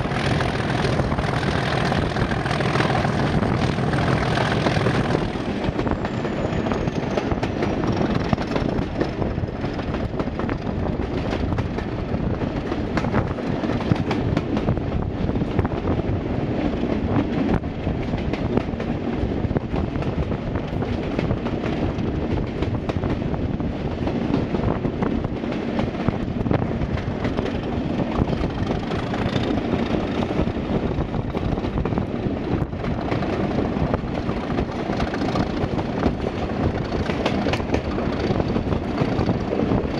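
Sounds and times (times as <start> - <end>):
diesel locomotive engines running: 0.0 - 39.9
wheels clicking on rail: 0.0 - 39.9.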